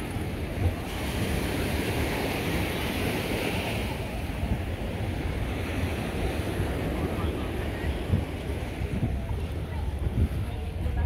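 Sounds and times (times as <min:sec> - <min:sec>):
ocean surf washing on beach: 0:00.0 - 0:11.0
wind buffeting microphone: 0:00.0 - 0:11.0.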